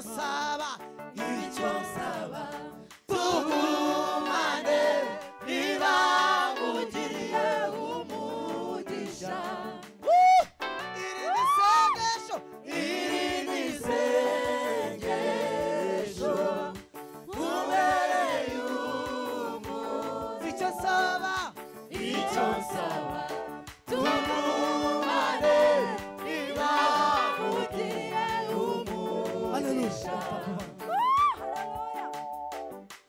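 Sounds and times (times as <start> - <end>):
choir singing gospel song: 0.0 - 10.1, 12.4 - 32.2.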